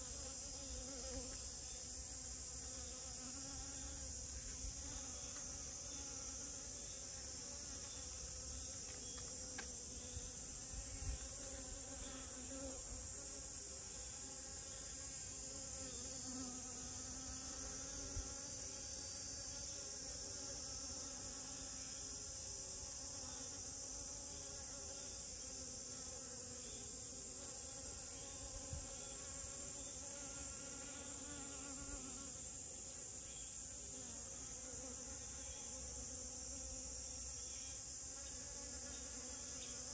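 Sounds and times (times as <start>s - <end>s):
bee buzzing: 0.0s - 39.9s
high-pitched insect chorus: 0.0s - 39.9s.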